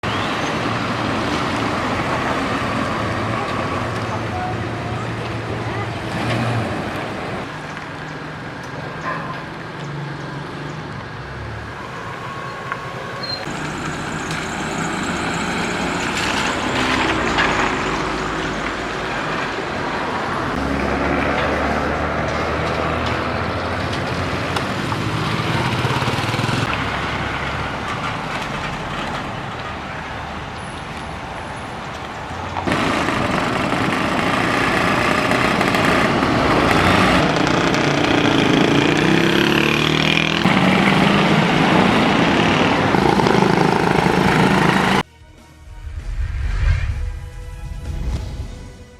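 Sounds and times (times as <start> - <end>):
cars and trucks passing: 0.0 - 48.9.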